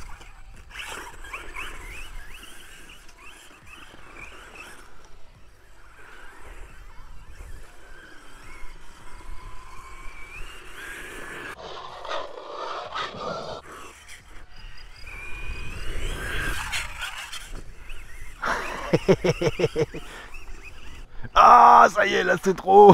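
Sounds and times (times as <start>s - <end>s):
electric motor whine: 0.0s - 22.9s
grass rustling: 0.0s - 22.9s.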